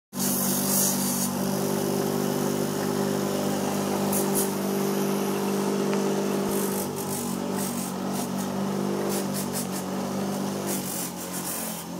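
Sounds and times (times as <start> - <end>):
hissing scrapes: 0.1 - 1.8, 2.4 - 11.9
bench grinder motor hum: 0.2 - 11.9.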